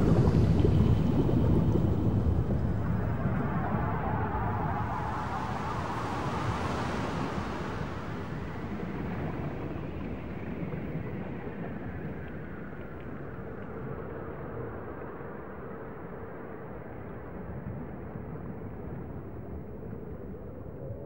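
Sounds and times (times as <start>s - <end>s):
dense rumbling drone: 0.0s - 21.0s.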